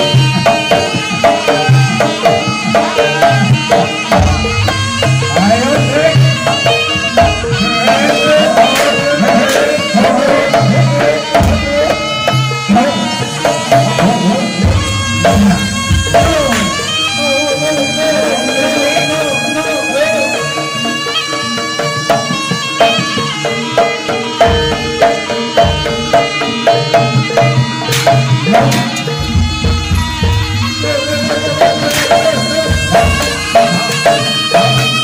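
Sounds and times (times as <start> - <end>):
hand drums beating: 0.0 - 35.0
reedy wavering melody: 0.0 - 35.0.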